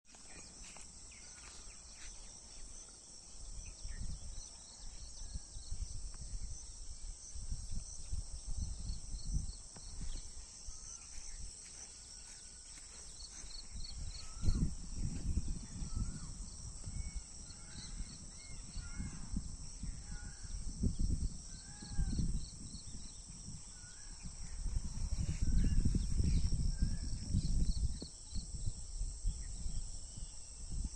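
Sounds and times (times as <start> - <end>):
high insect drone: 0.1 - 30.9.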